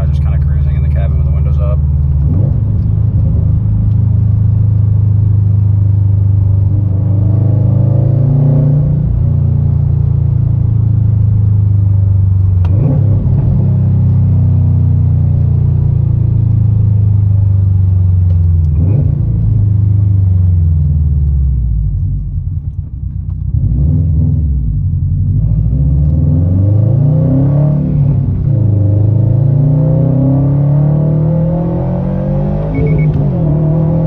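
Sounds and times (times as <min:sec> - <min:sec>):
car engine accelerating through gears: 0:00.0 - 0:34.0.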